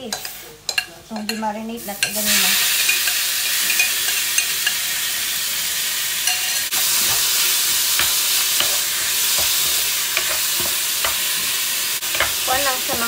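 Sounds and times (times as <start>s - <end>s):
beef sizzling in a hot pan: 1.8s - 13.0s.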